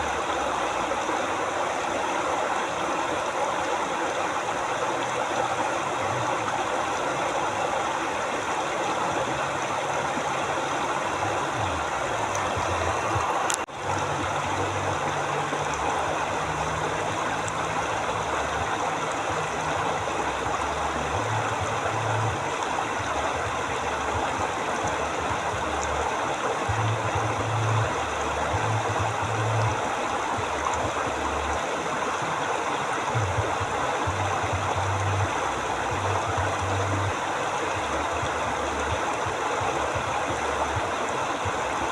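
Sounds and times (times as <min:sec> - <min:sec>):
river rushing: 0:00.0 - 0:41.9.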